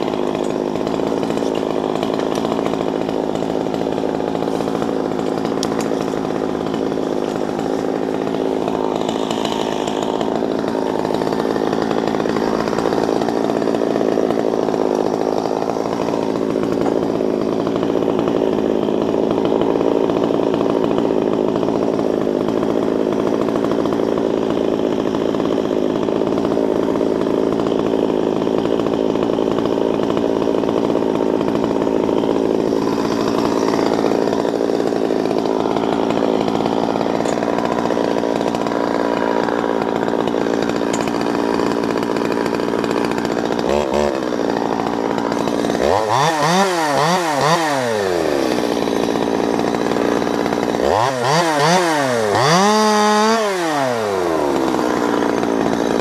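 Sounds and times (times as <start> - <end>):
chainsaw idling: 0.0 - 56.0.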